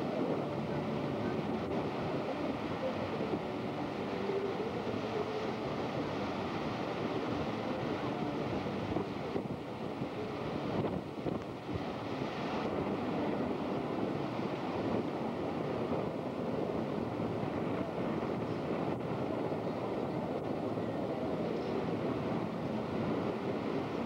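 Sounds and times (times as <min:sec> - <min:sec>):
surf washing on beach: 0:00.0 - 0:24.0
wind on microphone: 0:00.0 - 0:24.0.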